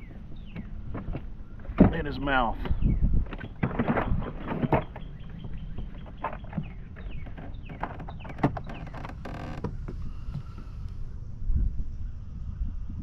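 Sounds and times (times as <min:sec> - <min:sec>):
clicks and knocks on plastic kayak: 0:00.0 - 0:10.5.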